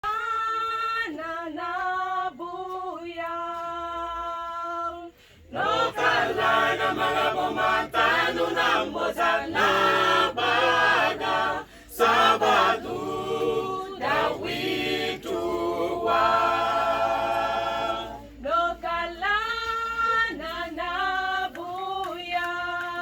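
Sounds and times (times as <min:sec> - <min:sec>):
choir singing a cappella: 0:00.0 - 0:23.0.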